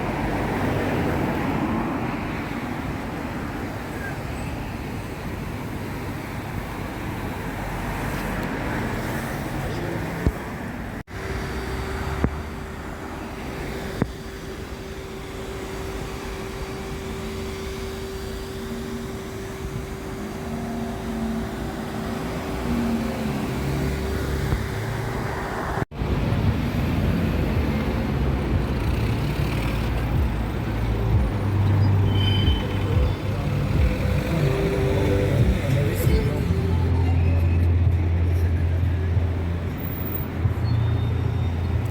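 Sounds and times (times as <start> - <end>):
vehicles passing on a street: 0.0 - 41.9.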